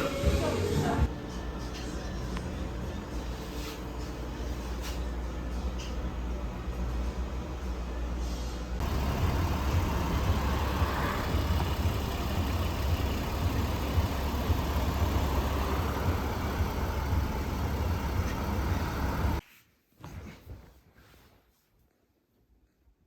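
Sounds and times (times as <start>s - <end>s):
car engine and road noise: 0.0s - 19.4s.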